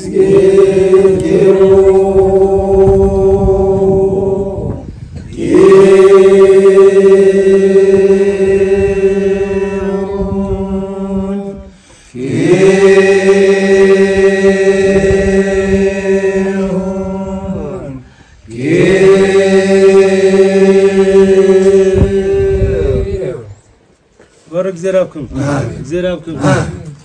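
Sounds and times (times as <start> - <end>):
group chanting in unison: 0.0 - 23.6, 25.2 - 27.0.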